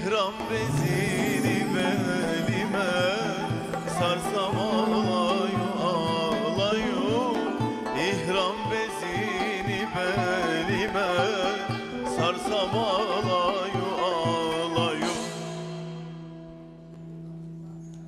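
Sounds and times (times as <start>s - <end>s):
man singing melismatically: 0.0s - 16.0s
plucked zither: 0.0s - 17.8s
end-blown flute: 0.0s - 18.0s
hand drums beating: 0.4s - 16.2s.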